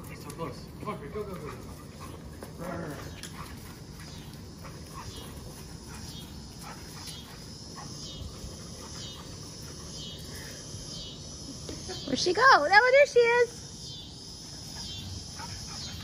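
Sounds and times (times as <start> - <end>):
cicadas buzzing: 0.0 - 16.0.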